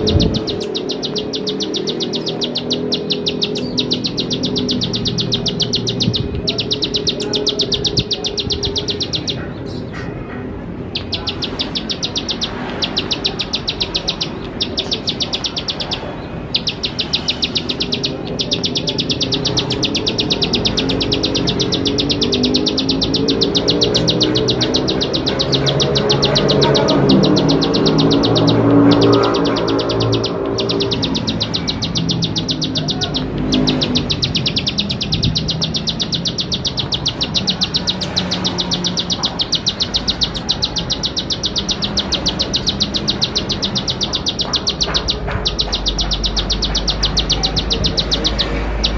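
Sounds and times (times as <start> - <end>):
bird clicking song: 0.0 - 10.1, 10.8 - 48.9.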